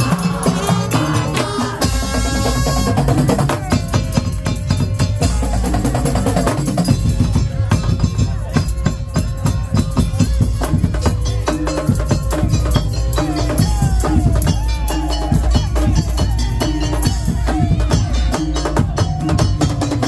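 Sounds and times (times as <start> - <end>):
percussion ensemble drumming: 0.0 - 20.0.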